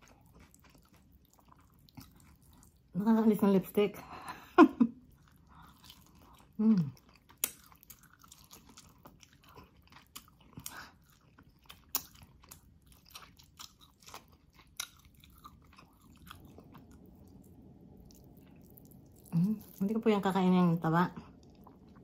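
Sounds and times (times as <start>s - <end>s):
person chewing meat: 0.0s - 2.9s, 5.0s - 19.8s, 21.2s - 22.0s.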